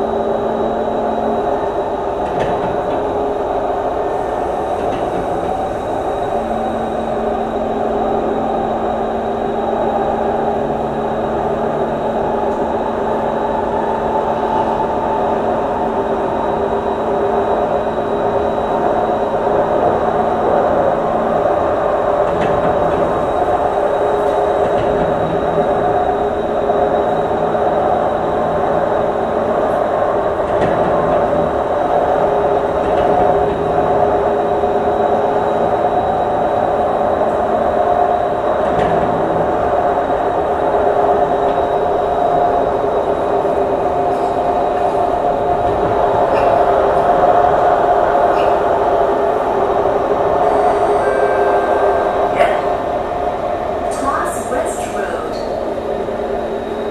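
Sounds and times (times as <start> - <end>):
train motors and wheels on rails: 0.0 - 56.9.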